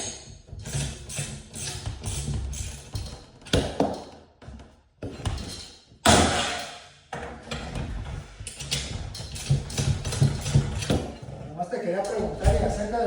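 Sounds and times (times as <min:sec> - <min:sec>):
tools knocking and banging: 0:00.0 - 0:11.4, 0:12.0 - 0:13.0.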